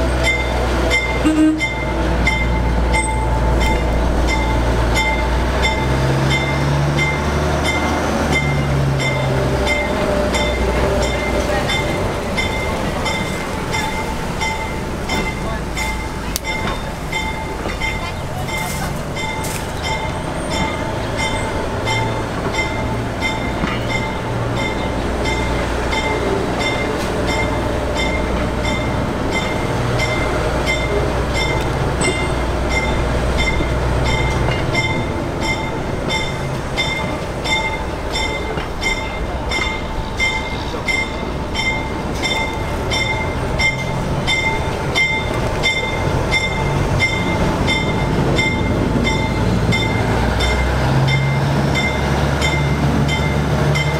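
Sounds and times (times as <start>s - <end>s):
locomotive bell ringing: 0.0s - 53.9s
locomotive engine humming: 0.0s - 53.9s.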